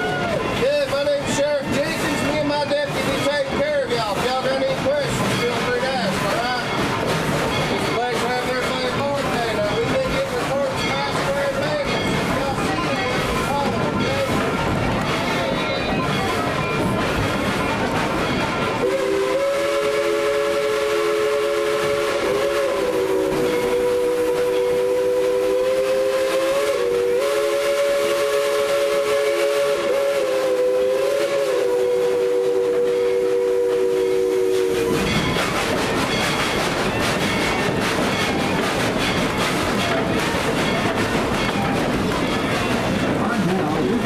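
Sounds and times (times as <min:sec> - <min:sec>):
steam locomotive chime whistle: 0:00.0 - 0:44.0
train running noise: 0:00.0 - 0:44.0.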